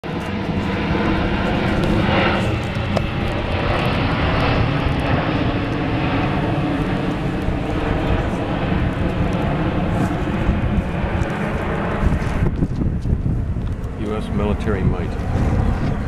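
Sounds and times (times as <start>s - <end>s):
airboat engine and propeller: 0.0s - 16.0s.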